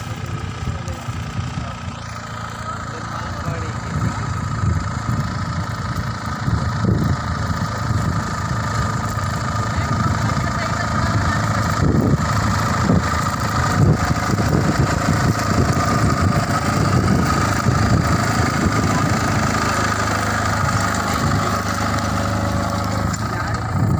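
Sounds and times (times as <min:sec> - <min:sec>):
tractor diesel engine under load: 0:00.0 - 0:23.9.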